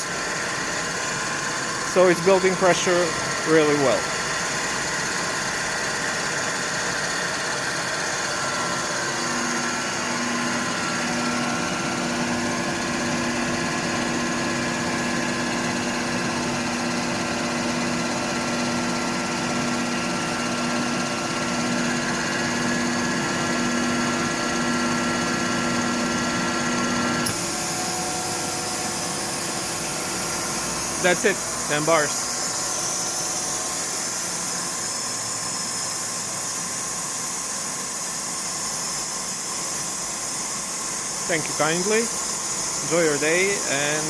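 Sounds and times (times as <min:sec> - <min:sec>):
air compressor running: 0:00.0 - 0:44.0.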